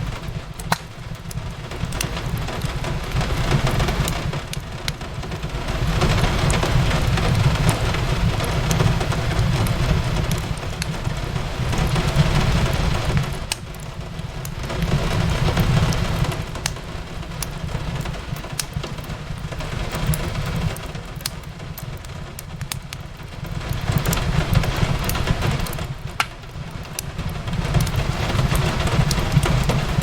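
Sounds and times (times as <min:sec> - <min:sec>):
steady rain: 0:00.0 - 0:30.0
wood fire crackling and popping: 0:00.0 - 0:30.0.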